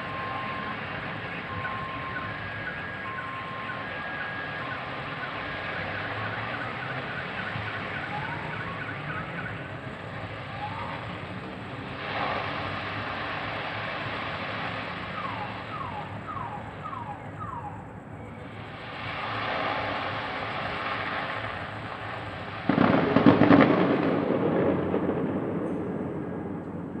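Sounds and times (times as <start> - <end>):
firework burst and crackling: 0.0 - 17.4, 18.4 - 27.0
background rumble: 0.0 - 27.0
firework whistles: 0.0 - 27.0.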